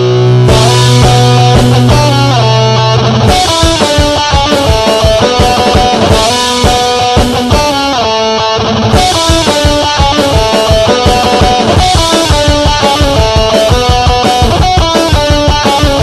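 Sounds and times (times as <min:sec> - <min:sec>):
distorted electric guitar melody: 0:00.0 - 0:16.0
fast drum beat: 0:00.5 - 0:08.0, 0:08.9 - 0:16.0.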